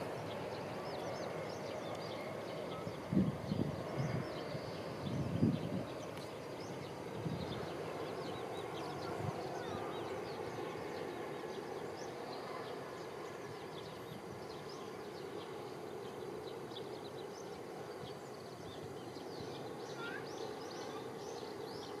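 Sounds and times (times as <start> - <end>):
distant background hum: 0.0 - 22.0
small birds chirping: 0.0 - 22.0.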